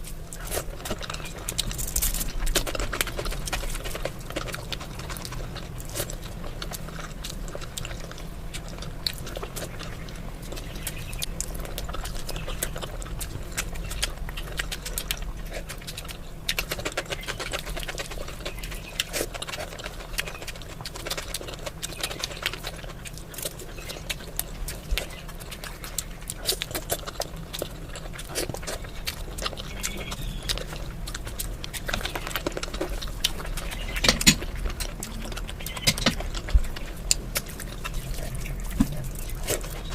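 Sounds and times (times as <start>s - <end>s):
chewing and lip-smacking: 0.0s - 39.9s
low steady hum: 0.0s - 39.9s.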